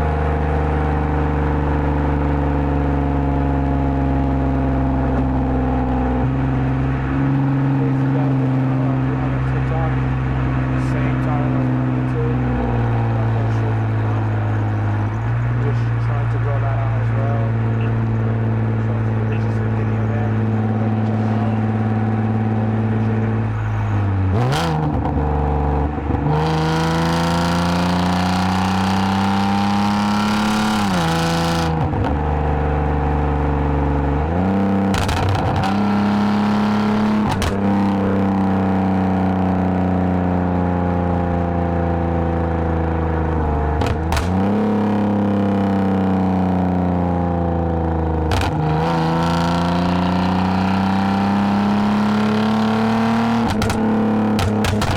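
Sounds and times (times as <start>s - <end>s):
car engine and exhaust revving: 0.0s - 54.9s.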